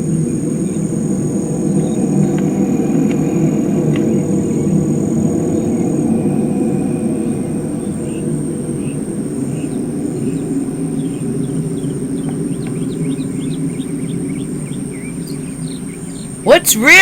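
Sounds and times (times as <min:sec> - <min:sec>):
low rumbling drone: 0:00.0 - 0:16.5
high insect-like whine: 0:00.0 - 0:17.0
small birds chirping: 0:00.0 - 0:17.0.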